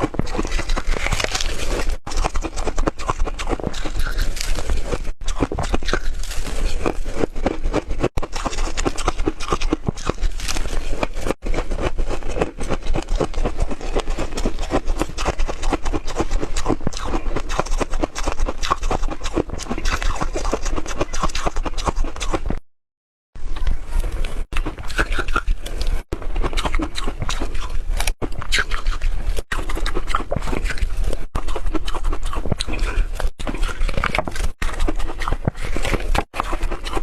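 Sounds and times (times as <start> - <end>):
ice being chewed: 0.0 - 22.6, 23.5 - 37.0.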